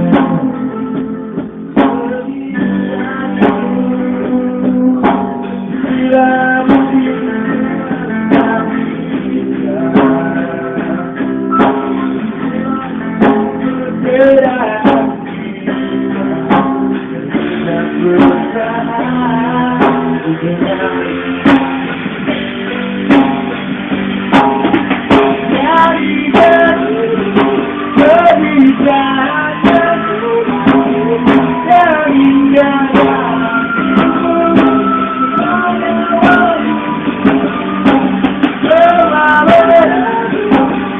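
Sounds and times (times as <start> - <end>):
drum hits: 0.0 - 40.9
muffled live band music: 0.0 - 40.9.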